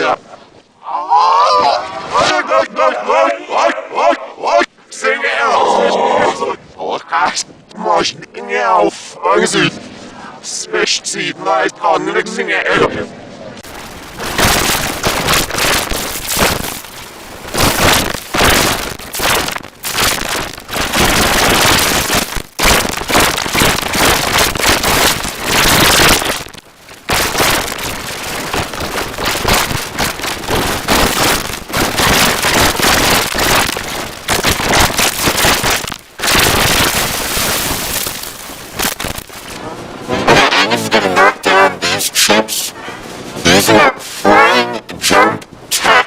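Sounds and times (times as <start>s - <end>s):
harsh distorted static: 0.0s - 46.0s.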